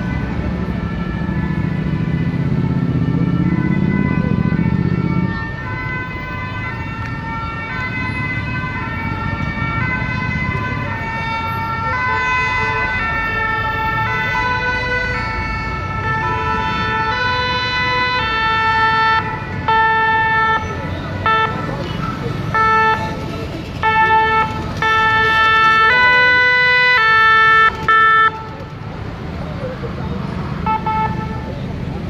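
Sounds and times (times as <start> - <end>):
two-tone emergency siren: 0.0 - 23.2, 23.8 - 28.6
low traffic rumble: 0.0 - 32.0.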